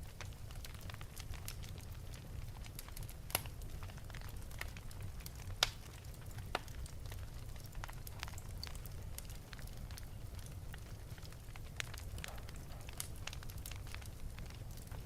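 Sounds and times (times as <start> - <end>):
wood fire burning: 0.0 - 15.0.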